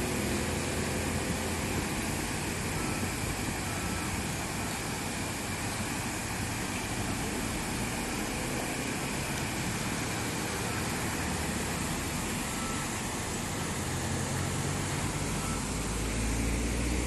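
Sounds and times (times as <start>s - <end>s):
water rushing down a weir: 0.0s - 17.0s.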